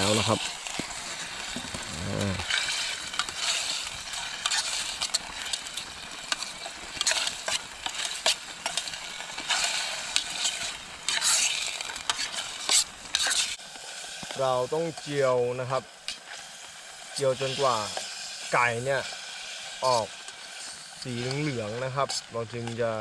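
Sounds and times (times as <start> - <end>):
utensil scraping a pan: 0.0 - 13.6, 17.4 - 22.8
chicken sizzling in oil: 0.0 - 23.0.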